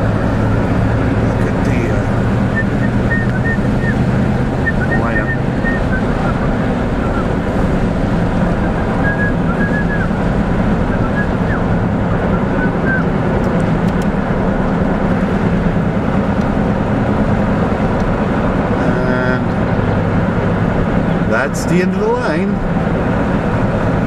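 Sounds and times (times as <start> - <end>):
car engine hum and road noise: 0.0 - 24.0.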